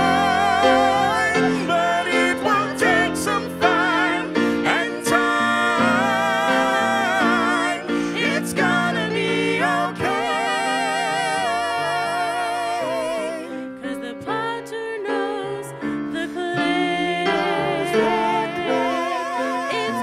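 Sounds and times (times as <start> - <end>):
piano accompaniment: 0.0 - 20.0
vocal trio singing in harmony: 0.0 - 20.0.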